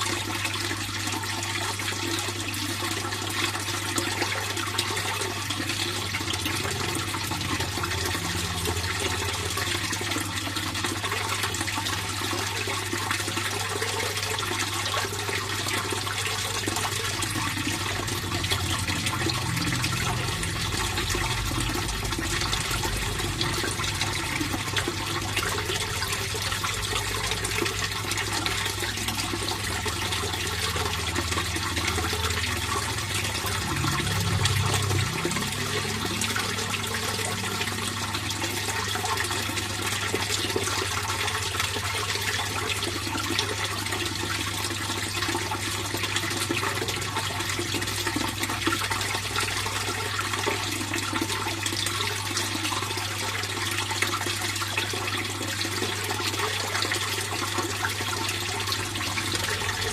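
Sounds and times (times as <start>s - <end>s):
pond water flowing: 0.0s - 59.9s.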